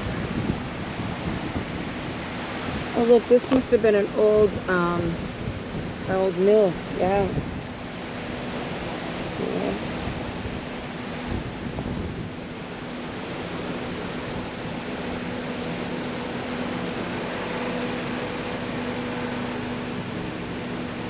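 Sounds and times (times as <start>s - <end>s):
low hum: 2.9s - 21.0s.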